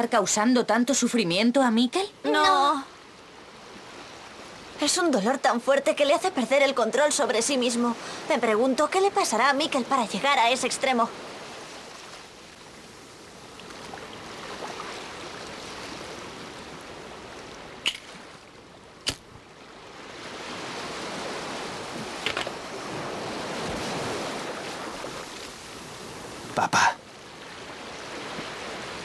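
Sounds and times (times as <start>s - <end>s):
sea waves washing: 2.2s - 29.0s.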